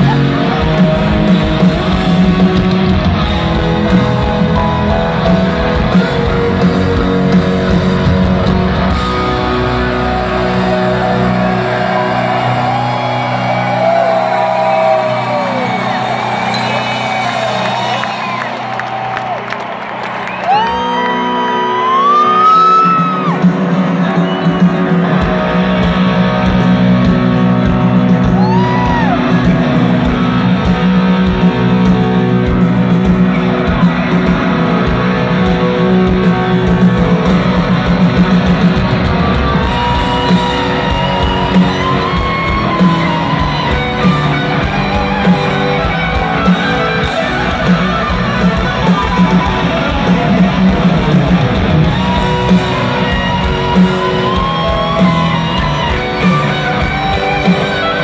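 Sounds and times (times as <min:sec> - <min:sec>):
bass guitar: 0:00.0 - 0:58.0
drums: 0:00.0 - 0:58.0
electric guitar solo: 0:00.0 - 0:58.0.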